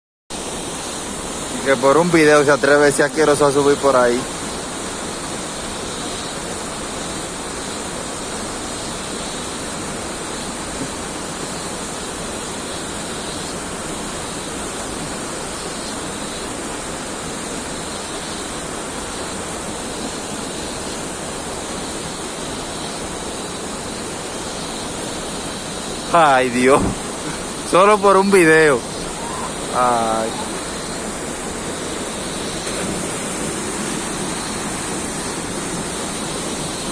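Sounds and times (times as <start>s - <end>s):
waterfall rushing: 0.3s - 36.9s.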